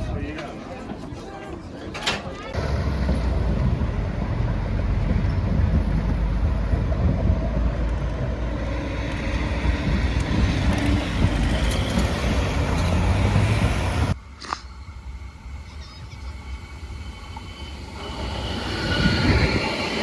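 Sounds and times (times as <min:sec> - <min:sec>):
tram wheels and motors rumbling: 0:00.0 - 0:20.0.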